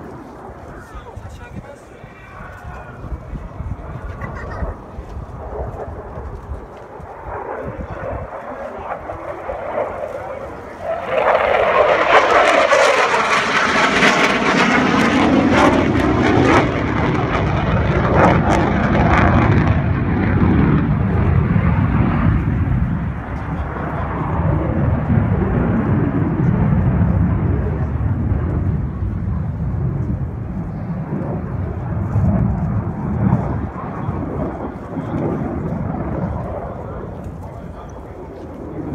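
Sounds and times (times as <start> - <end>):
fighter jet roaring past: 0.0 - 38.9.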